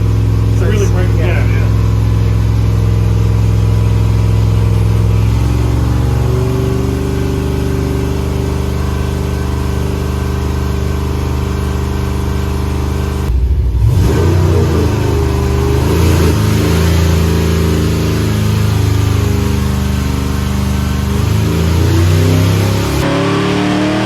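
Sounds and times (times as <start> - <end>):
engine running on dyno: 0.0 - 24.0.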